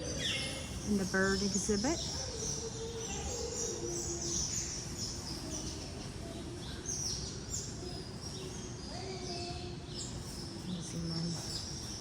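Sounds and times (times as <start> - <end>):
many birds chirping: 0.0 - 12.0.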